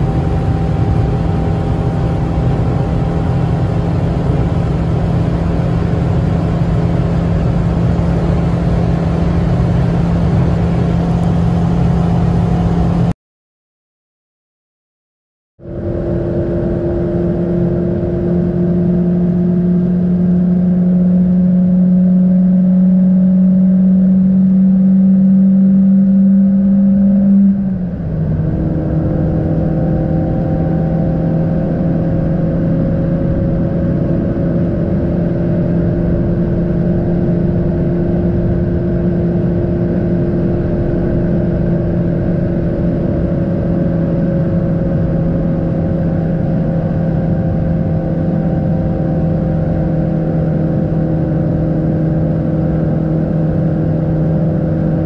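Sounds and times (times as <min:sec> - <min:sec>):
car engine at high speed: 0:00.0 - 0:13.1, 0:15.6 - 0:55.0
road and tyre noise: 0:00.0 - 0:13.1, 0:15.6 - 0:55.0.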